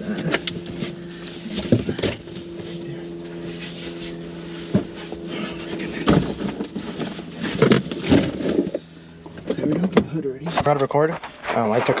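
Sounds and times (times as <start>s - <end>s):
car parts clicking and knocking: 0.0s - 2.7s, 4.7s - 12.0s
low engine hum: 0.0s - 12.0s.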